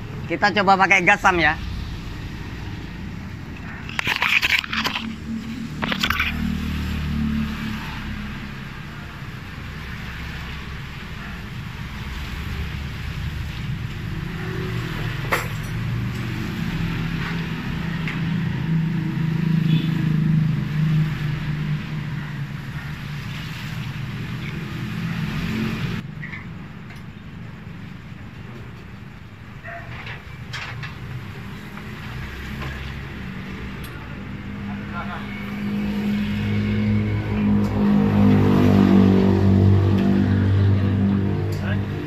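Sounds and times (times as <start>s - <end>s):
vehicle engine humming: 0.0s - 26.1s, 31.1s - 42.0s.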